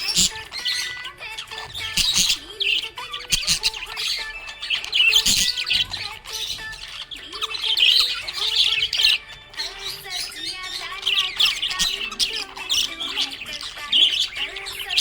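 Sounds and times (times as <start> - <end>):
budgerigar chirping and warbling: 0.0 - 15.0.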